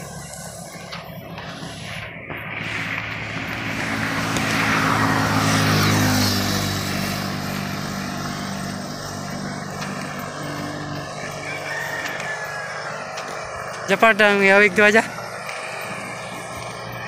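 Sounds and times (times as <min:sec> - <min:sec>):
vehicle driving past: 0:00.0 - 0:17.0.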